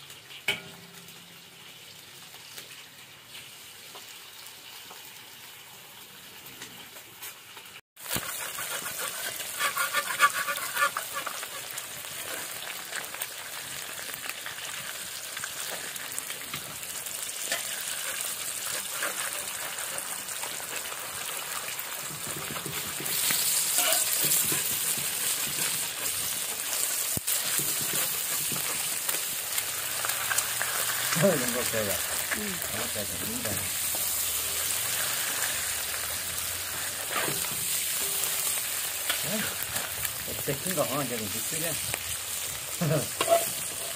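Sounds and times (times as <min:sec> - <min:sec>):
eggs sizzling in hot oil: 0:00.0 - 0:43.9.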